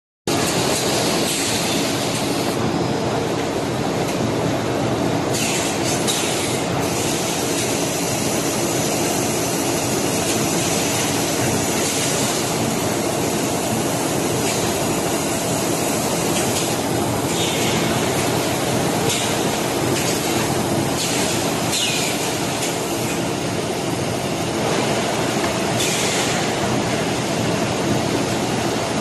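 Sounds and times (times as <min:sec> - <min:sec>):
machine mechanical drone and hiss: 0:00.3 - 0:29.0.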